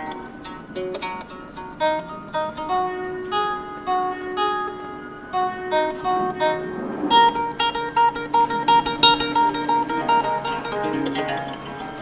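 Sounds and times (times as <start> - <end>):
plucked guitar pattern: 0.0 - 12.0.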